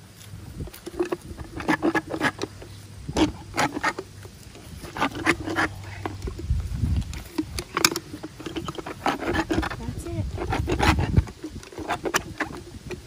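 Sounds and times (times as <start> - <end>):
rasp filing horse's teeth: 0.6 - 13.0.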